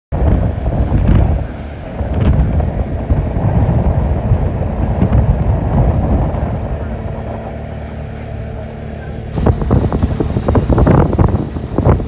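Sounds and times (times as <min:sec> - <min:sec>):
boat rumbling: 0:00.1 - 0:12.0
wind buffeting microphone: 0:00.1 - 0:12.0.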